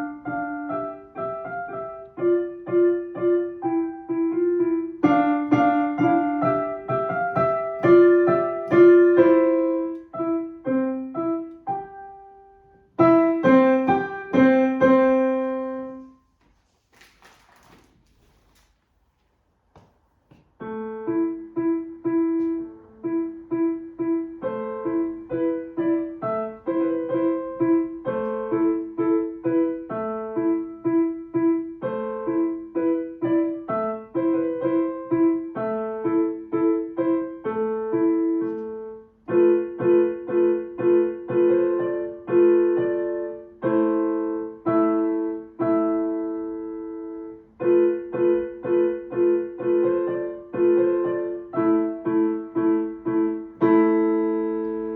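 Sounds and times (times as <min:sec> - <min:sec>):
solo piano piece: 0:00.0 - 0:18.7, 0:20.3 - 0:54.9.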